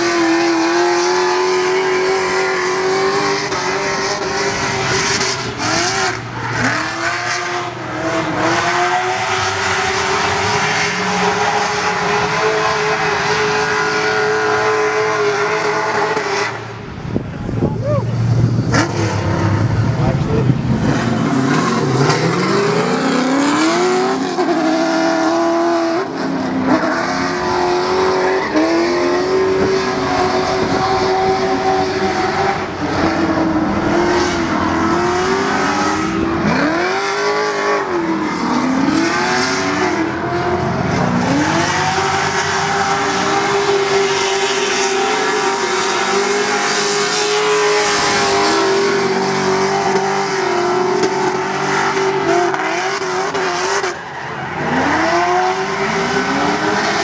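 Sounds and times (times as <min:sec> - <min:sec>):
car engine revving hard: 0:00.0 - 0:17.6, 0:18.2 - 0:57.0.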